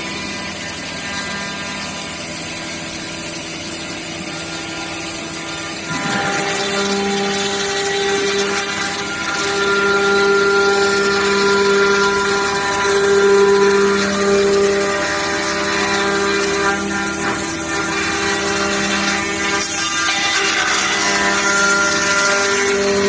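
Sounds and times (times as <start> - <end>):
wood router spindle whine: 0.0 - 23.0.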